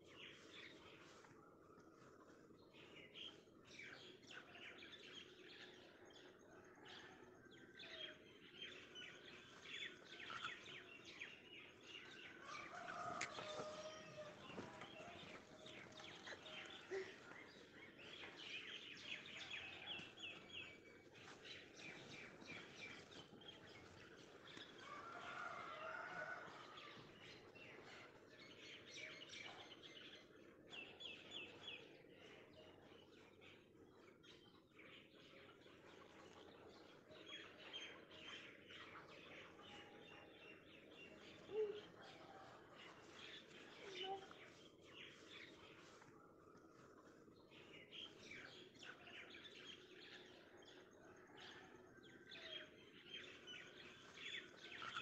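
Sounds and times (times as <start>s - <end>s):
small birds chirping: 7.9s - 51.7s, 52.4s - 55.0s.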